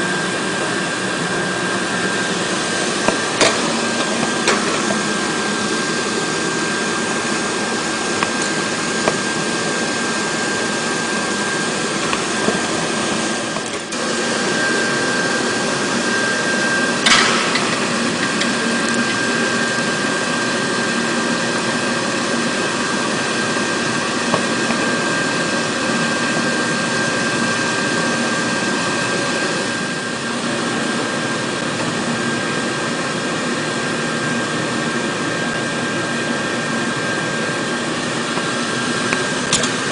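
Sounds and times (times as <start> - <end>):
high whine: 0.0 - 39.9
induction cooker whirring: 0.0 - 39.9.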